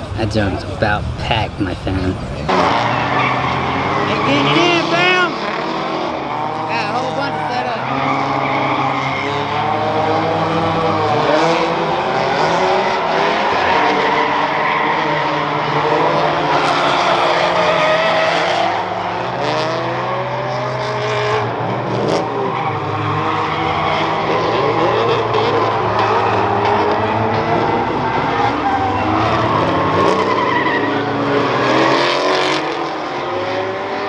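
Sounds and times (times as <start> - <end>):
car engines revving: 0.0 - 34.0
tyres squealing and skidding: 0.0 - 34.0.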